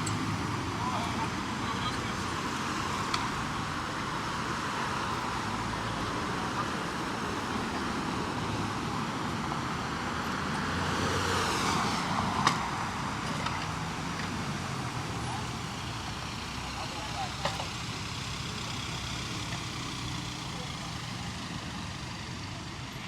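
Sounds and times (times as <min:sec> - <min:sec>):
passing road traffic: 0:00.0 - 0:23.0.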